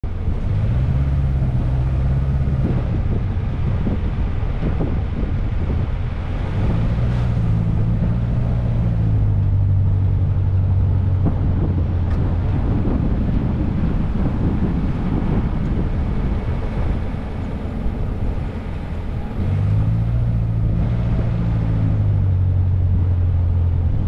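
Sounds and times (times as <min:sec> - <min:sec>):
vehicle engine droning: 0:00.0 - 0:24.0
wind on microphone: 0:00.0 - 0:24.0.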